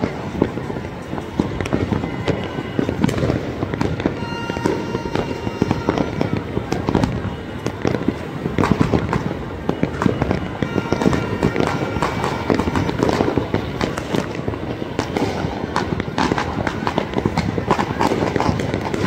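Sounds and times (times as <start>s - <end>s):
fireworks and firecrackers banging: 0.0s - 19.0s.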